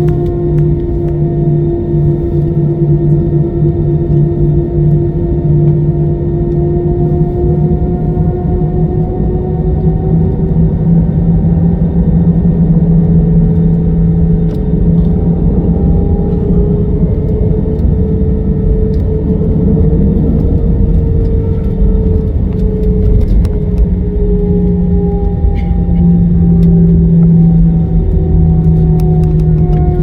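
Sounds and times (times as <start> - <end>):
jet engines rumbling: 0.0 - 30.0.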